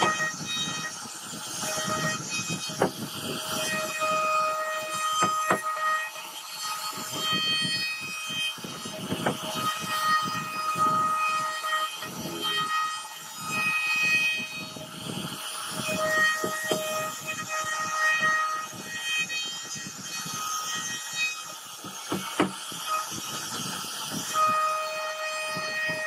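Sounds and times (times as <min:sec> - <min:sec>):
bit cutting into wood: 0:00.0 - 0:26.0
router spindle whine: 0:00.0 - 0:26.0.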